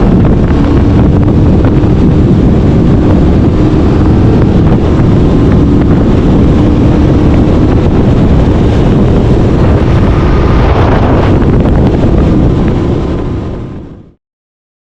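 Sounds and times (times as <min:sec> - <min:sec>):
motorcycle engine at speed: 0:00.0 - 0:14.2
wind noise on microphone: 0:00.0 - 0:14.2.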